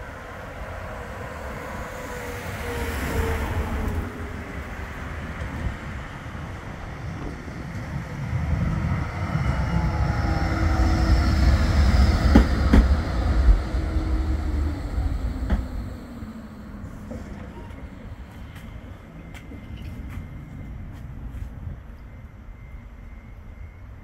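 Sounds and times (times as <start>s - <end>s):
tram rumble and motor whine: 0.0s - 24.0s.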